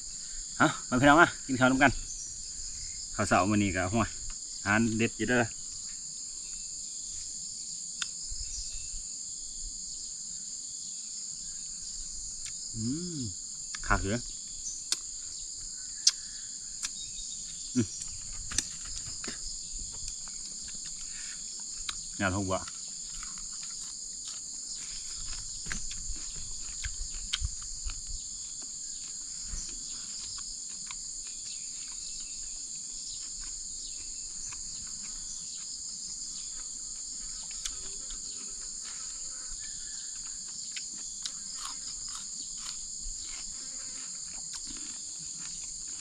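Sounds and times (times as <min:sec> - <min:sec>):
insect chorus: 0:00.0 - 0:46.0.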